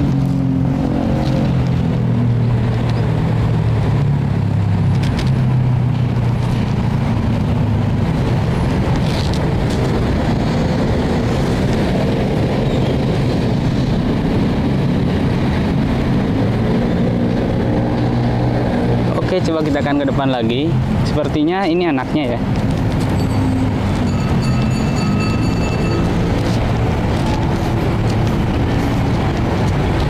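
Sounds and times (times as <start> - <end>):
motor traffic rumble: 0.0 - 30.0.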